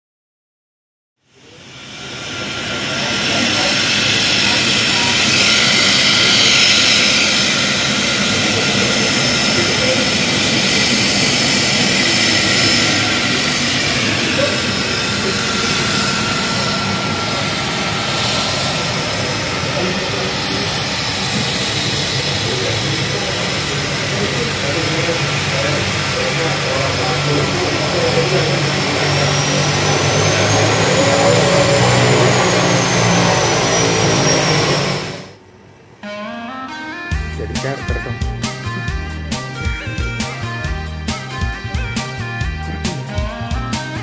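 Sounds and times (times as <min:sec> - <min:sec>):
turboprop engines running: 0:01.2 - 0:36.0, 0:37.0 - 0:44.0
high whining tones: 0:01.3 - 0:44.0.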